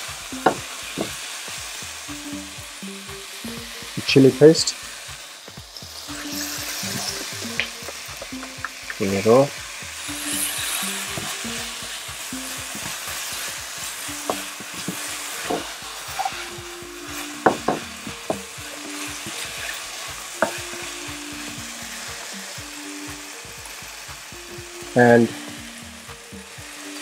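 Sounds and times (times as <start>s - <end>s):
vegetables frying hiss: 0.0s - 27.0s.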